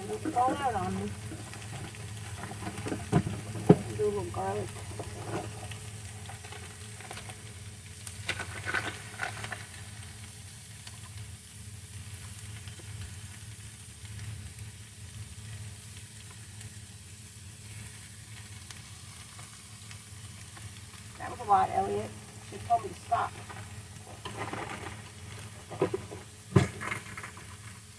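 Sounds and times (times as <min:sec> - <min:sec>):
steady low hum: 0:00.0 - 0:27.9
vegetables sizzling in a frying pan: 0:00.0 - 0:27.9.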